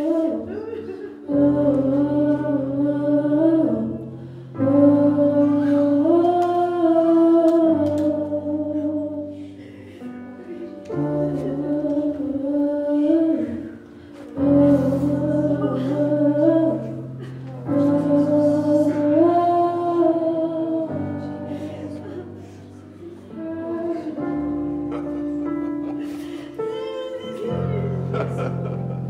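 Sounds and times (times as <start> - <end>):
voices singing worship: 0.0 - 29.0.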